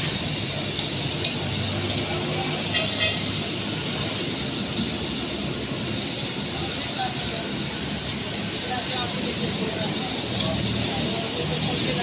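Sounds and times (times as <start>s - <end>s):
worksite hum and hiss: 0.0s - 12.0s.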